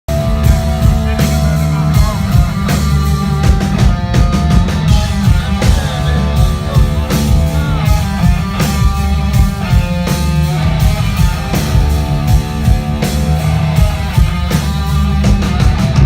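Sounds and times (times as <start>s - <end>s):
distorted electric guitars: 0.0s - 16.0s
heavy bass: 0.0s - 16.0s
pounding drum kit: 0.1s - 16.0s.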